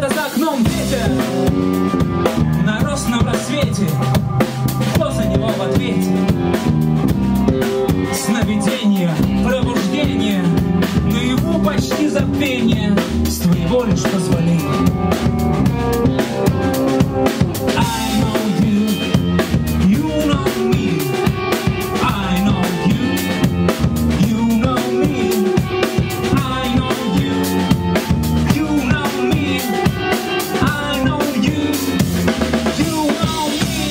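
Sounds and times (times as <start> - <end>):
drum kit beat: 0.0 - 33.9
electric bass guitar: 0.0 - 33.9
bending melodic line: 0.6 - 33.9.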